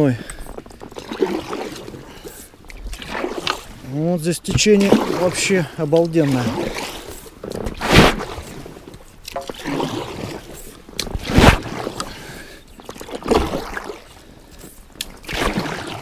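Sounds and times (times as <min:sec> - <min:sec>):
kayak paddle strokes splashing: 0:00.0 - 0:16.0
water trickling: 0:00.0 - 0:16.0.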